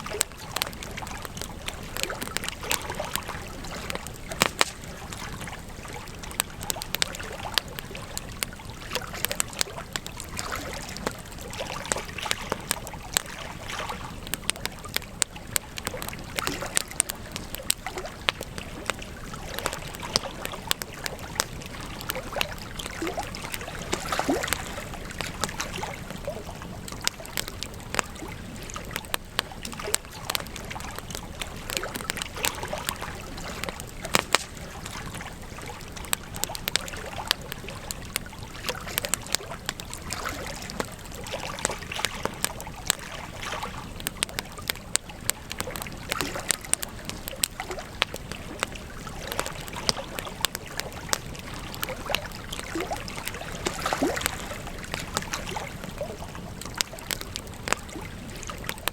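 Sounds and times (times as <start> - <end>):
burning wood crackling and popping: 0.0 - 58.9
low fire hiss: 0.0 - 58.9.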